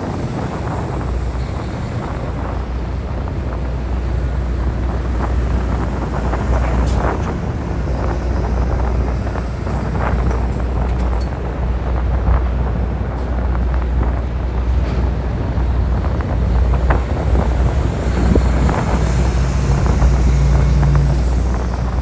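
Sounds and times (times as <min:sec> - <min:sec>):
heavy vehicle engines rumbling: 0:00.0 - 0:22.0
wind buffeting microphone: 0:00.0 - 0:22.0.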